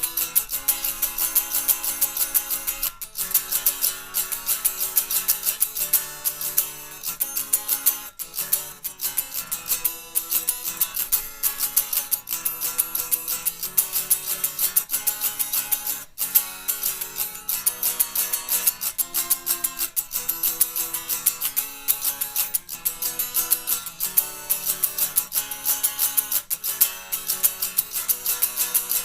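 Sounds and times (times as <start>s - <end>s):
guitar strumming chords: 0.0s - 29.0s.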